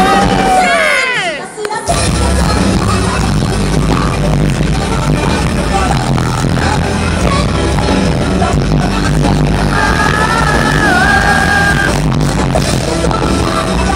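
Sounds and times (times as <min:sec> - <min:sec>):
live metal band playing: 0:01.9 - 0:13.9.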